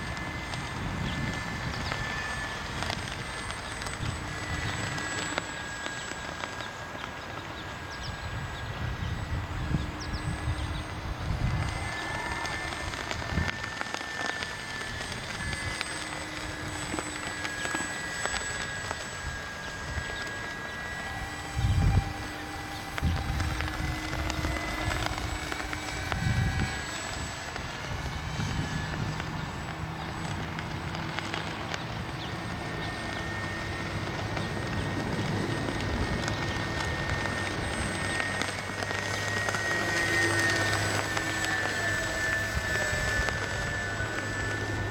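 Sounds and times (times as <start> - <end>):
scattered clicks: 0.0 - 8.2, 11.4 - 44.9
model airplane motor whining: 0.0 - 44.9
wind rumbling on microphone: 0.0 - 44.9.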